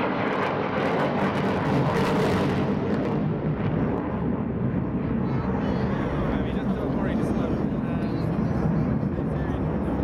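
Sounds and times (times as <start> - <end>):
fighter jet engine rushing: 0.0 - 10.0.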